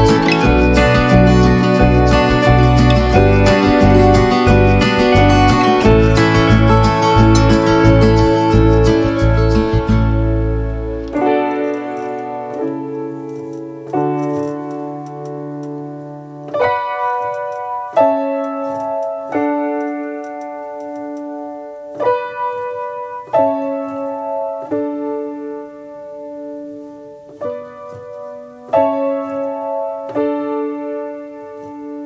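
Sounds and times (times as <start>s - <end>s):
slow piano chords: 0.0s - 32.0s.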